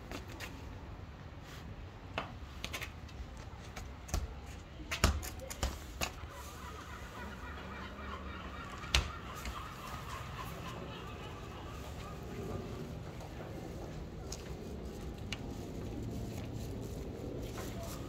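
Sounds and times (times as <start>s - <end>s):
street background noise: 0.0s - 18.0s.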